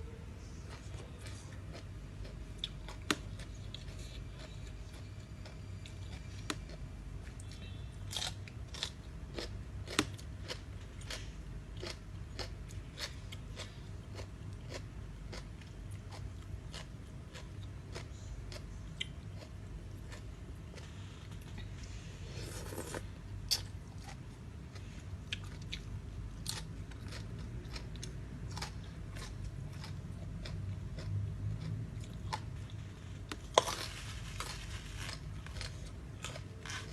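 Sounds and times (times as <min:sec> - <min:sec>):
steady low hum: 0:00.0 - 0:36.9
crunchy bites and chewing: 0:00.7 - 0:36.9.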